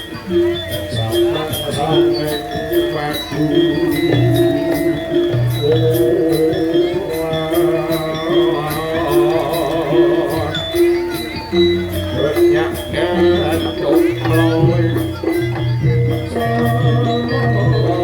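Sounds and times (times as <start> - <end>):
drums: 0.0 - 18.0
jingling beat: 0.0 - 18.0
wavering melody line: 0.0 - 18.0.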